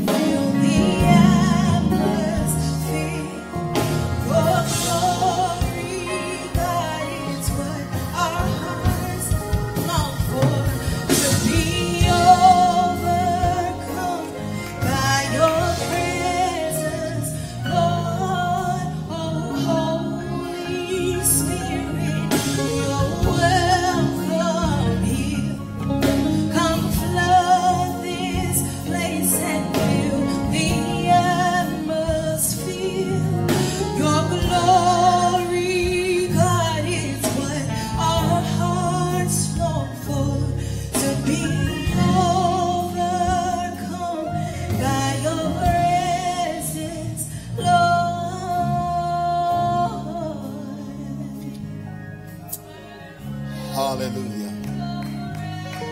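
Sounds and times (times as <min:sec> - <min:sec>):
gospel singing with vibrato: 0:00.0 - 0:55.9
instrumental accompaniment: 0:00.0 - 0:55.9.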